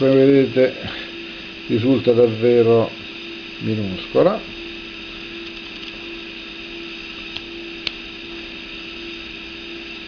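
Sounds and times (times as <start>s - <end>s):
electrical hum and hiss: 0.0s - 10.0s.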